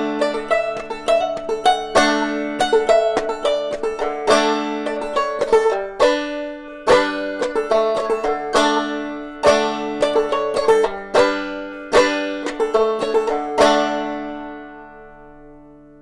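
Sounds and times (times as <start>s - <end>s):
banjo playing: 0.0s - 16.0s.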